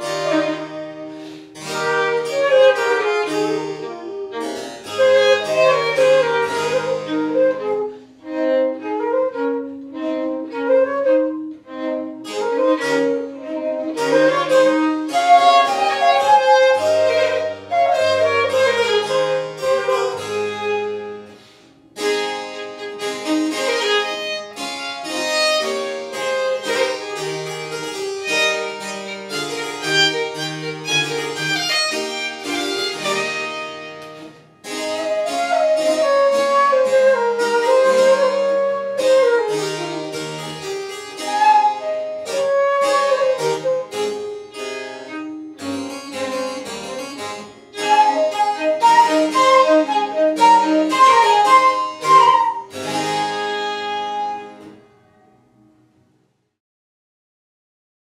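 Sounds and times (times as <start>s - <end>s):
harpsichord: 0.0s - 9.0s, 11.0s - 55.8s
wooden flute: 0.0s - 54.8s
violin: 0.0s - 55.2s.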